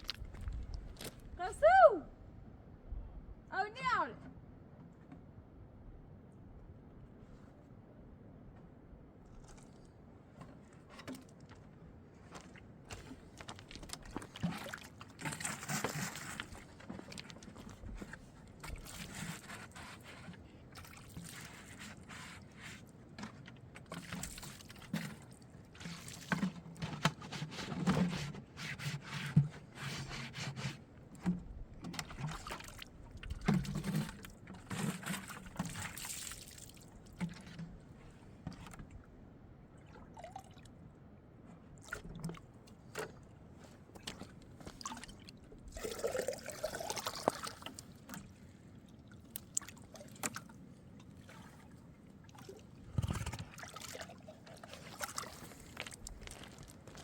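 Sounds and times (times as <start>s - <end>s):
water splashing and sloshing: 0.0s - 1.4s, 9.2s - 57.0s.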